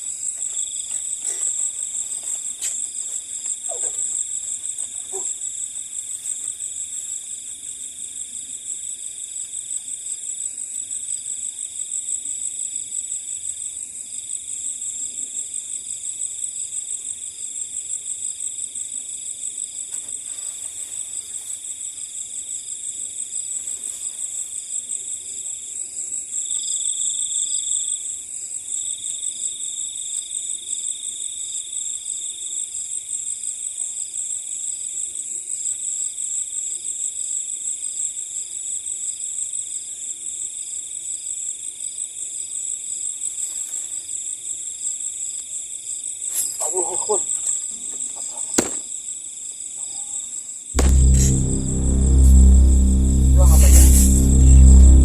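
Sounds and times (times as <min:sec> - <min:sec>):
crickets trilling: 0:00.0 - 0:40.0, 0:41.8 - 0:50.7.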